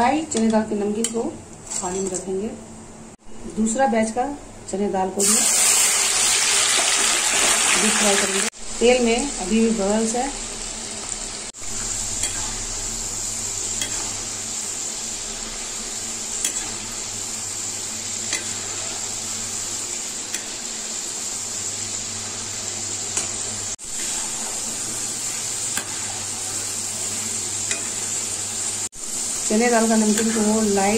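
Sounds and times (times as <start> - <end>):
food sizzling in hot oil: 5.2 - 30.9.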